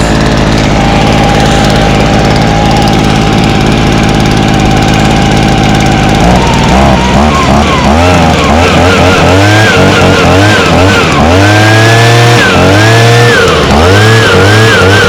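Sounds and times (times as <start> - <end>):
leaf blower engine revving: 0.0 - 15.0.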